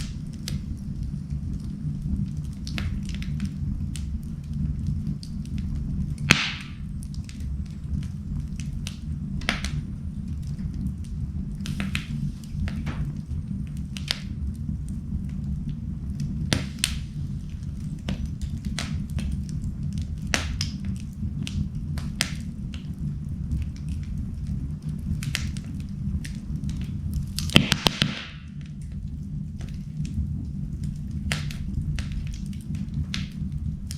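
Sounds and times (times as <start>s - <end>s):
low rumble: 0.0s - 33.9s
wood fire crackling: 0.0s - 33.9s.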